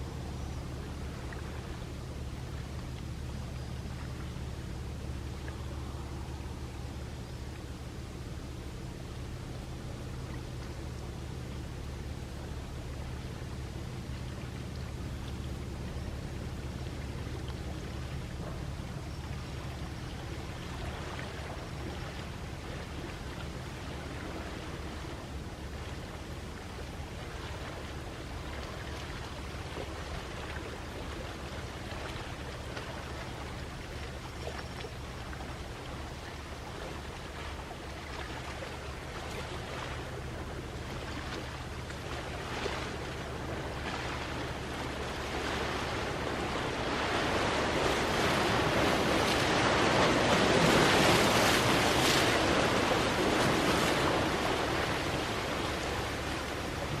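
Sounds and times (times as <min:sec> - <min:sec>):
faint low hum: 0:00.0 - 0:57.0
sea waves washing on shore: 0:00.0 - 0:57.0.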